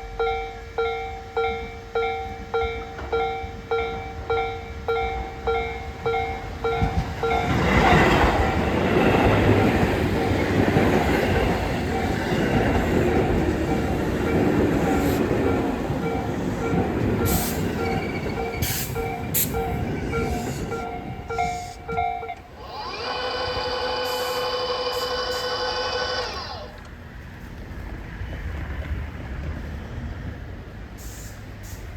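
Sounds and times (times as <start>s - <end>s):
train wheels rumbling: 0.0s - 31.9s.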